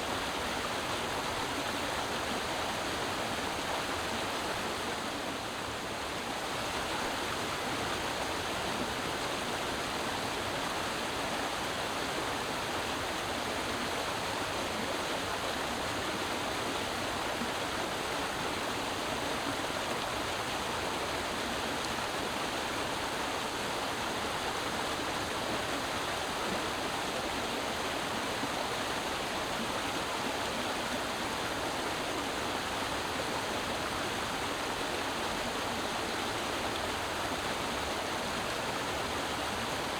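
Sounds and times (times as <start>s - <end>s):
creek water babbling: 0.0s - 39.9s.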